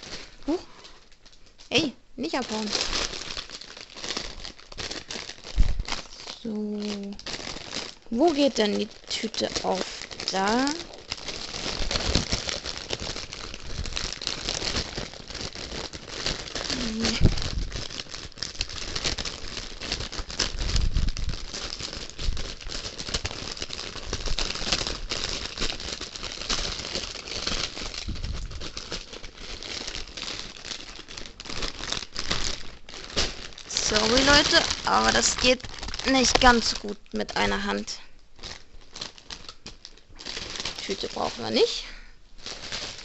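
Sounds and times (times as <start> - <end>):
plastic bag crinkling: 0.0 - 43.0.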